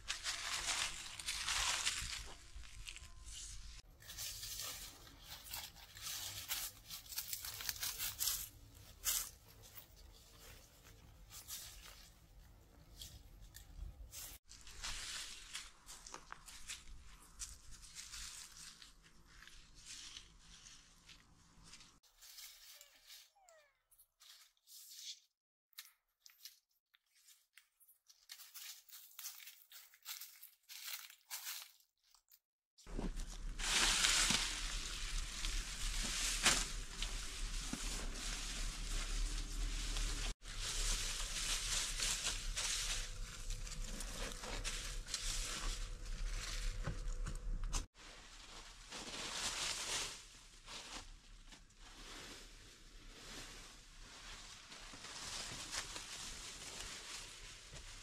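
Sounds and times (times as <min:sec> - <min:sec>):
reeds and leafy stems rustling: 0:00.0 - 0:23.2, 0:32.9 - 0:58.0.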